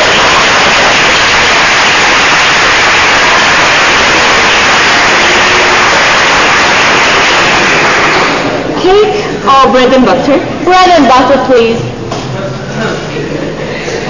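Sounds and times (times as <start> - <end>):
loud static hiss: 0.0 - 14.0.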